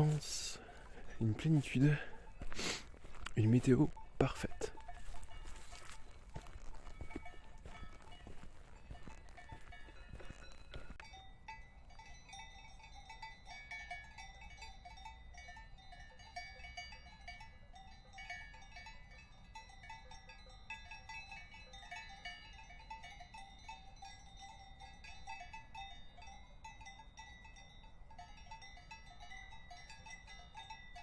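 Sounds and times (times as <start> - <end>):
cowbells clanking: 0.0 - 31.0.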